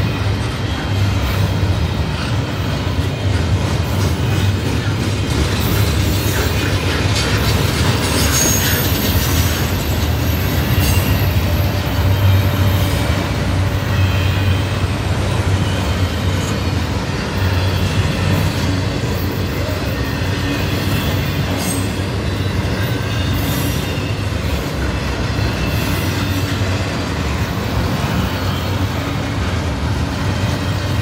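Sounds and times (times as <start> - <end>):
freight train wheels clattering: 0.0 - 31.0.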